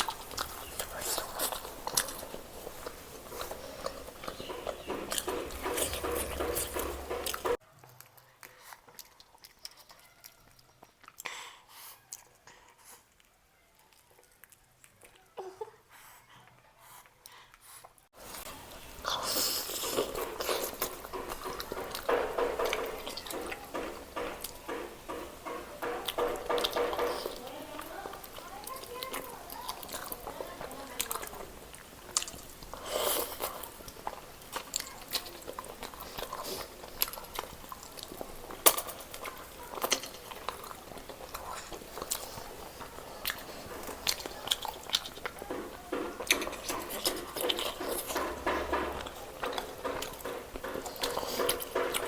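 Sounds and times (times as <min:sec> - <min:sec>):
chewing and biting: 0:00.0 - 0:15.4, 0:17.0 - 0:52.0.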